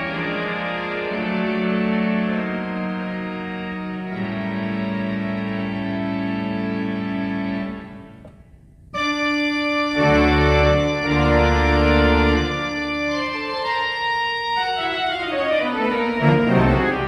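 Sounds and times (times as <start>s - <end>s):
deep organ bass notes: 0.0s - 17.0s
pipe organ chords: 0.0s - 17.0s.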